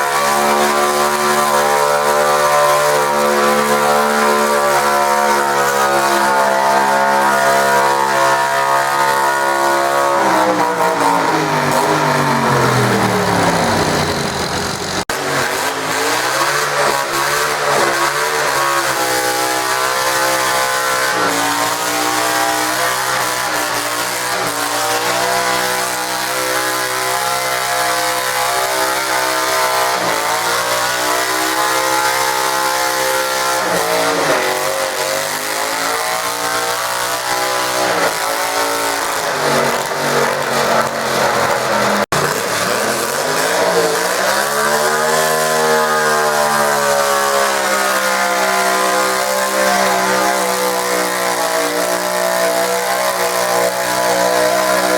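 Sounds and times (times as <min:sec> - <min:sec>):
tractor engine under load: 0:00.0 - 0:52.2.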